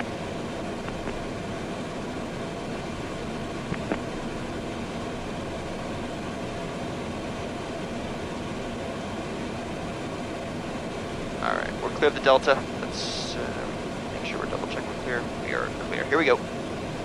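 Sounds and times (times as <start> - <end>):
jet cockpit air and engine noise: 0.0 - 17.0.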